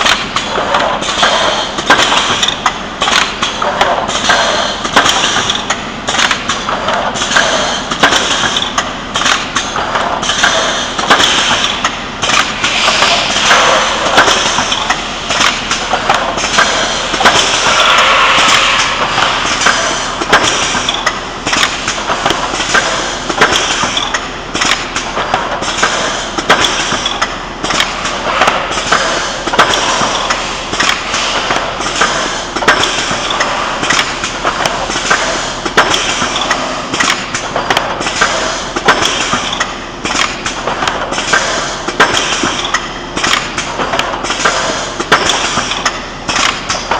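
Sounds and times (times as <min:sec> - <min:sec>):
machine clattering and knocking: 0:00.0 - 0:46.9
welding machine running: 0:00.0 - 0:46.9.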